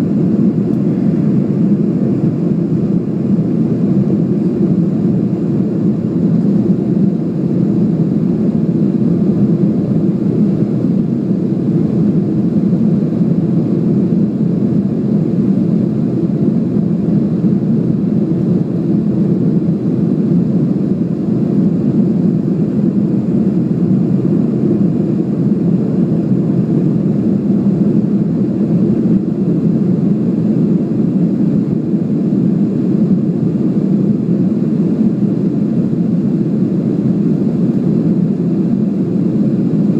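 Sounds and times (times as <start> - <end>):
jet engine and airflow drone: 0.0 - 39.9.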